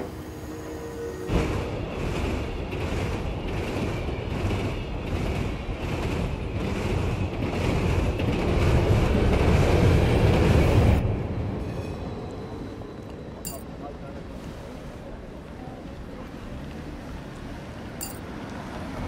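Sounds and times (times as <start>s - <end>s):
tram passing with rumble: 0.0s - 19.0s.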